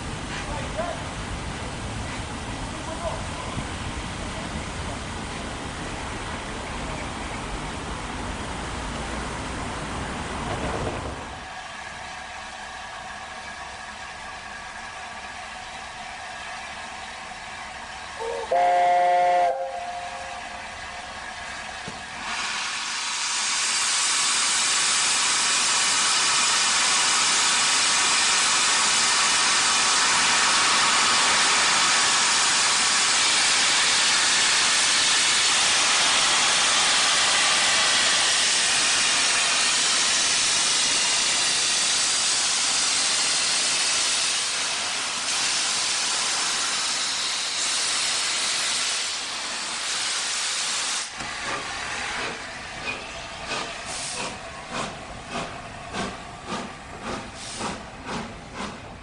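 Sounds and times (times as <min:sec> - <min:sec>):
steam locomotive hissing steam: 0:09.8 - 0:59.0.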